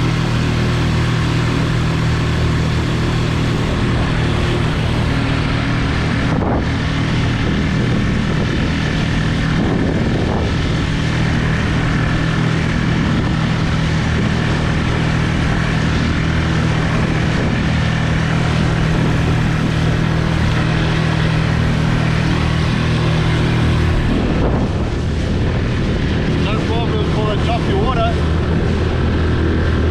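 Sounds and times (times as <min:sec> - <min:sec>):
outboard motor running: 0:00.0 - 0:29.9.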